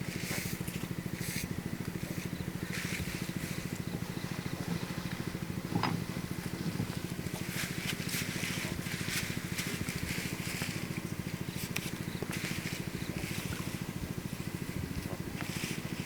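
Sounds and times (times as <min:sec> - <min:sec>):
small engine puttering: 0:00.0 - 0:16.0.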